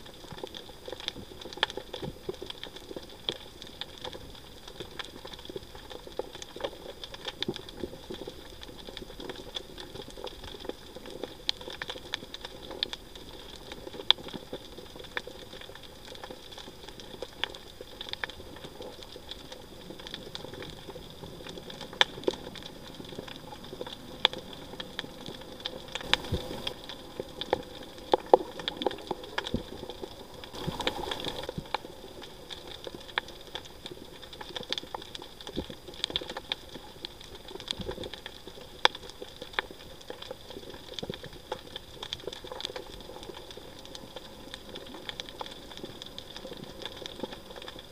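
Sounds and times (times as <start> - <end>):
underwater crackling clicks: 0.0 - 47.9.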